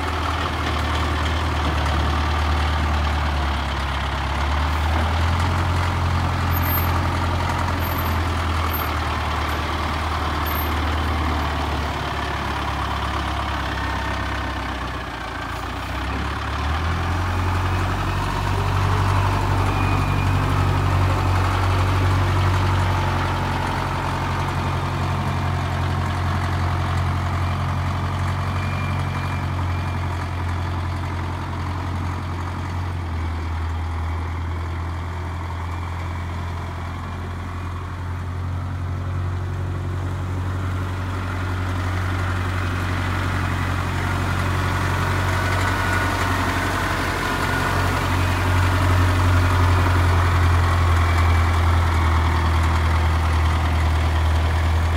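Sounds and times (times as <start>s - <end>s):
wheel loader diesel engine: 0.0s - 54.9s.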